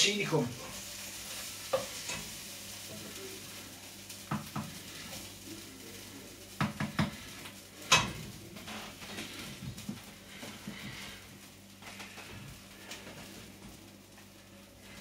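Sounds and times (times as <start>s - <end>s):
light sizzling: 0.0s - 15.0s.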